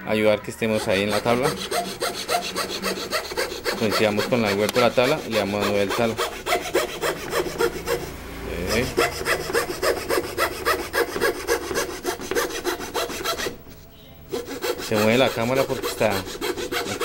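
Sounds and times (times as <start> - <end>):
fret saw cutting wood: 0.6 - 13.6, 14.3 - 17.0.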